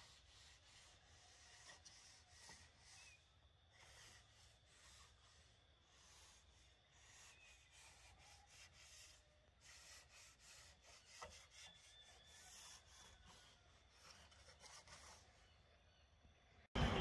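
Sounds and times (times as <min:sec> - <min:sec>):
rubbing against a wall: 0:00.0 - 0:15.6.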